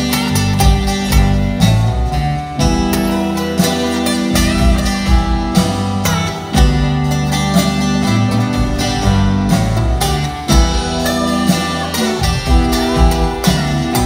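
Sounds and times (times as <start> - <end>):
live band instrumental: 0.0 - 14.0.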